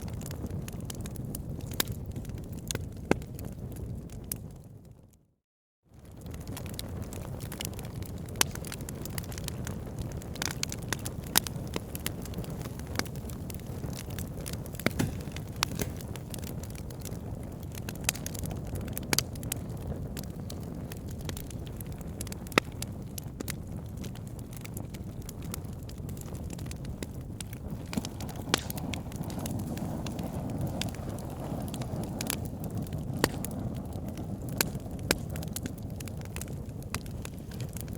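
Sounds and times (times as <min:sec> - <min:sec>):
burning logs crackling and popping: 0:00.0 - 0:05.2, 0:06.0 - 0:37.9
rush of flames: 0:06.0 - 0:37.9.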